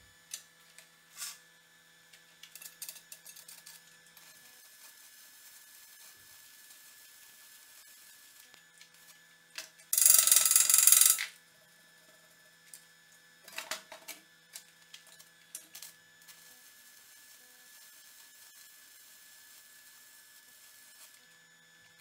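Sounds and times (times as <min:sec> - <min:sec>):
arc welding crackle and hiss: 0:00.0 - 0:01.5, 0:02.2 - 0:10.0, 0:12.3 - 0:22.0.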